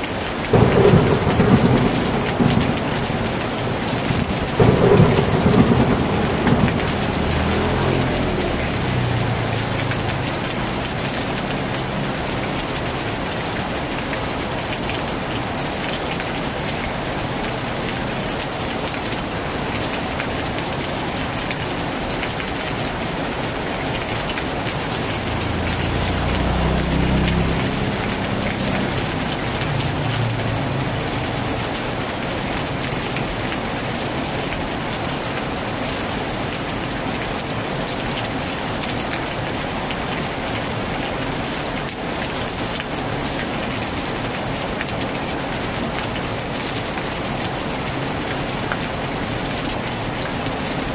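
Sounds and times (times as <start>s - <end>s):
heavy rain on a tin roof: 0.0s - 50.9s.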